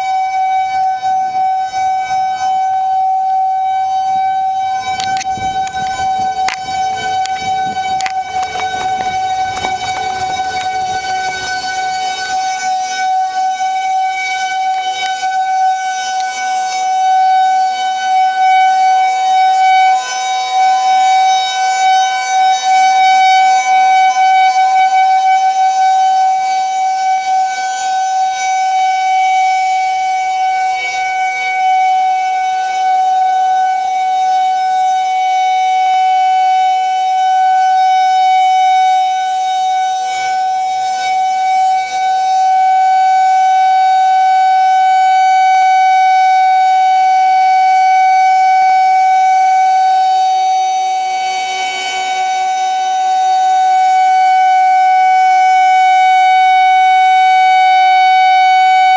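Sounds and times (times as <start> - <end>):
rotating warning siren: 0.0 - 58.9.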